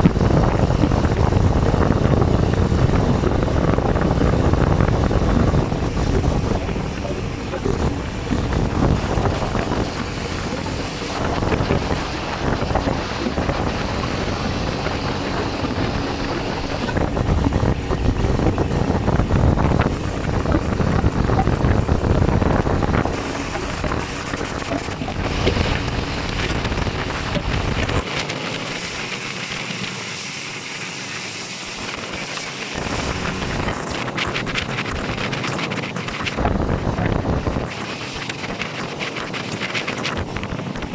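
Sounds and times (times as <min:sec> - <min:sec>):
motorboat rushing: 0:00.0 - 0:40.9
wind buffeting microphone: 0:00.0 - 0:40.9.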